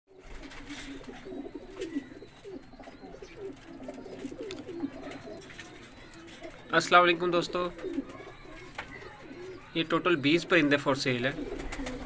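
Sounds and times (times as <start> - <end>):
pigeons cooing: 0.1 - 12.0.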